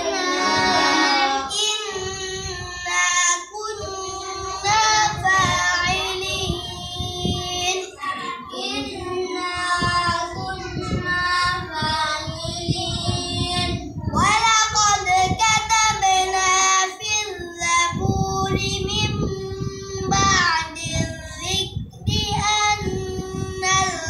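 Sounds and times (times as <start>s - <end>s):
boy chanting: 0.0s - 24.0s.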